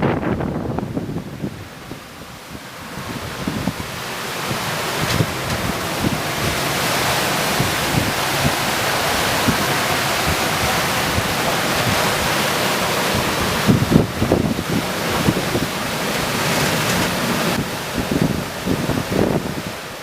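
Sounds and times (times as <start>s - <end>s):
water rushing along hulls: 0.0s - 20.0s
wind buffeting microphone: 0.0s - 20.0s.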